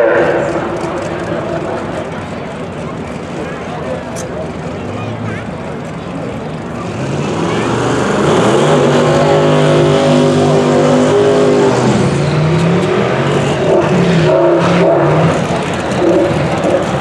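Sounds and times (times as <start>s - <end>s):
car engine revving: 0.0s - 3.3s, 4.4s - 17.0s.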